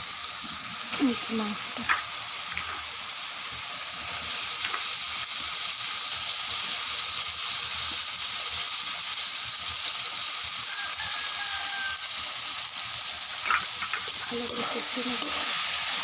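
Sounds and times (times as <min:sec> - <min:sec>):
meat sizzling in hot oil: 0:00.0 - 0:16.0
light stirring in a pan: 0:00.3 - 0:16.0.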